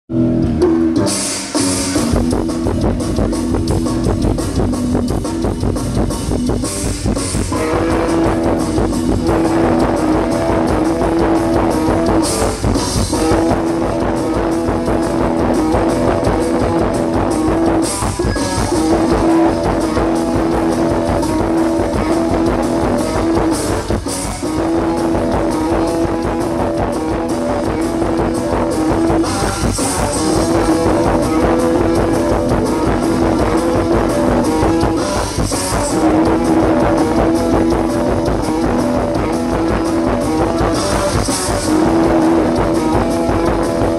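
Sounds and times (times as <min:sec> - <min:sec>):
live band playing: 0:00.1 - 0:43.9
steady drum beat: 0:00.4 - 0:43.9.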